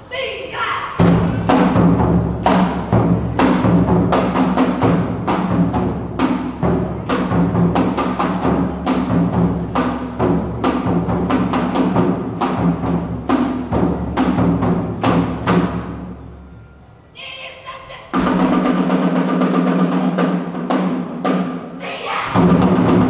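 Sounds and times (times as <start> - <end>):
taiko drum beating: 1.0 - 16.1, 18.1 - 21.7, 22.3 - 23.0.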